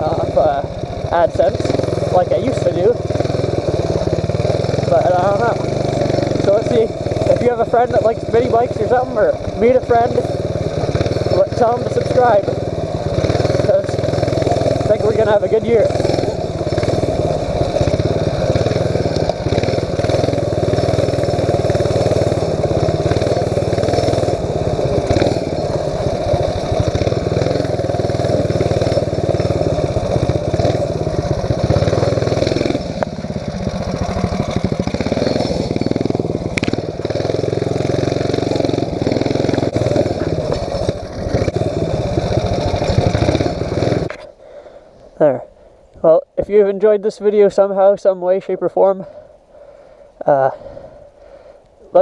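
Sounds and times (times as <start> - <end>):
mini bike engine running: 0.0 - 44.3.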